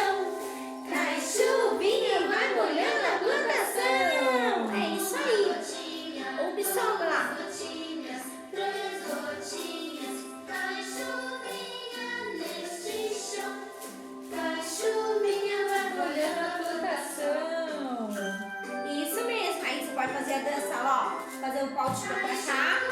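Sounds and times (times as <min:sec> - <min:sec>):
children's song with voices singing: 0:00.0 - 0:22.9.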